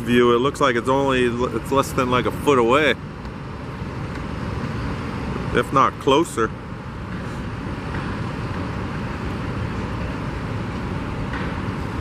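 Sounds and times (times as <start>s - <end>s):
construction machinery: 0.0s - 12.0s
vehicle traffic rumble: 0.0s - 12.0s.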